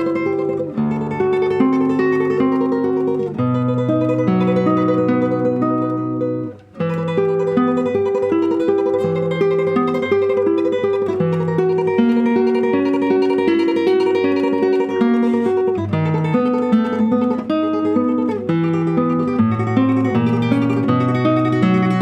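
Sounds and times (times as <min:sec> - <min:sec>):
classical guitar tremolo: 0:00.0 - 0:22.0.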